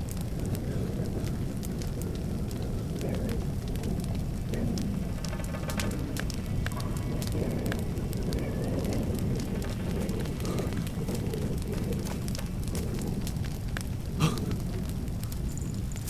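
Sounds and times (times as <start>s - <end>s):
fires crackling and popping: 0.0s - 16.0s
steady low rumble: 0.0s - 16.0s.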